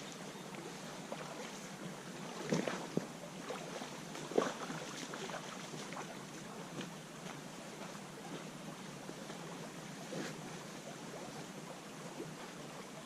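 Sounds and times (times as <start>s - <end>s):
creek running: 0.0s - 13.0s.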